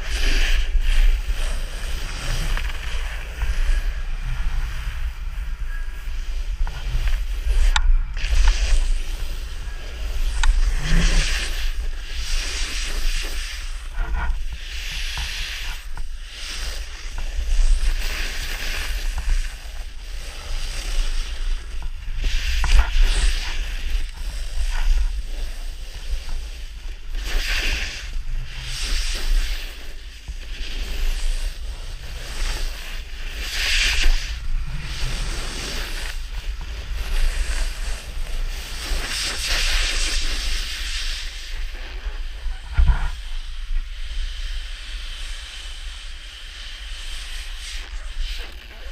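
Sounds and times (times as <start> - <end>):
snowboard hissing through snow: 0.0 - 48.9
wind rumble on microphone: 0.0 - 48.9.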